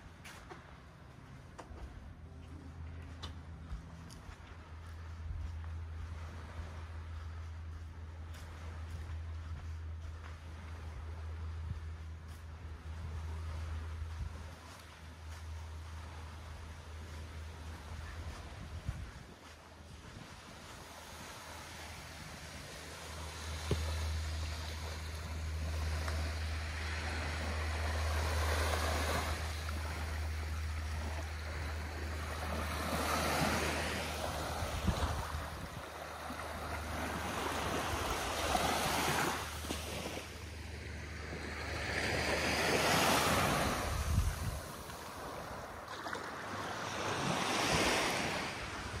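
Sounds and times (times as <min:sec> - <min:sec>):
low steady hum: 0:00.0 - 0:46.6
small waves lapping on beach: 0:02.3 - 0:49.0.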